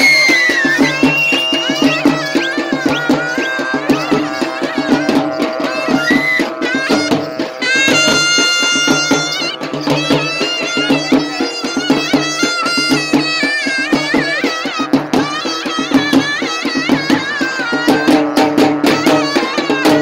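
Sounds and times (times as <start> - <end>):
frame drum beats: 0.0 - 20.0
reed pipe melody: 0.0 - 20.0.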